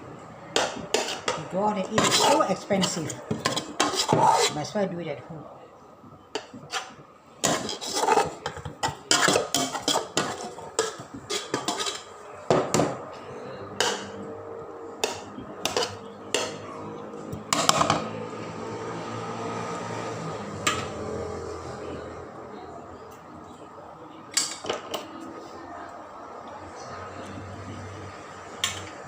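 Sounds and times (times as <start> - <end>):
steady background noise: 0.0 - 29.0.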